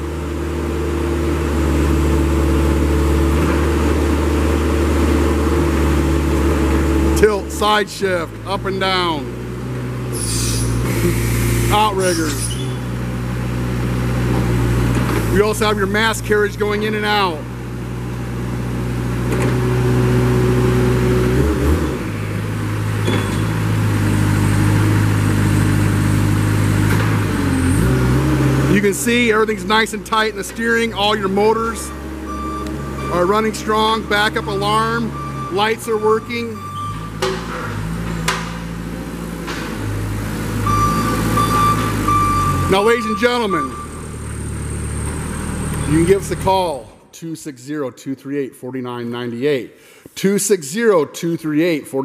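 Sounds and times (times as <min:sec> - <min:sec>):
forklift engine running: 0:00.0 - 0:47.0.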